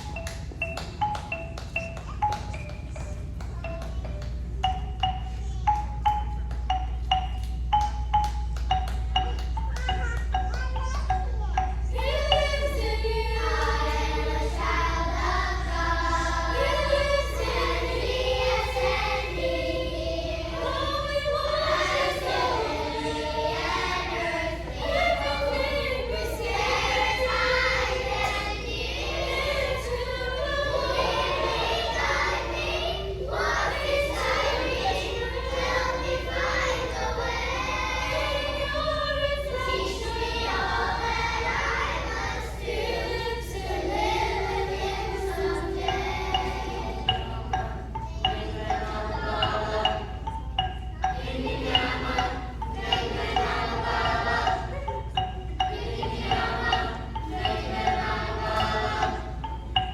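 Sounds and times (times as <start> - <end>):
children's choir singing: 0.0 - 59.9
low steady hum: 0.0 - 59.9.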